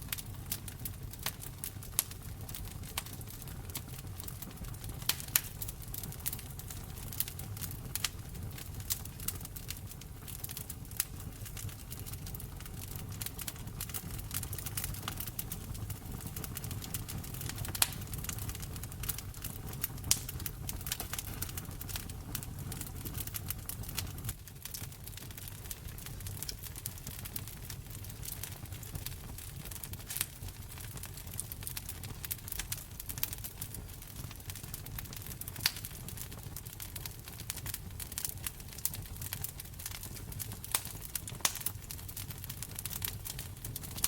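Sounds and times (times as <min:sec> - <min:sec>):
fire crackling and popping: 0:00.0 - 0:44.0
low rumble of fire: 0:00.0 - 0:44.0.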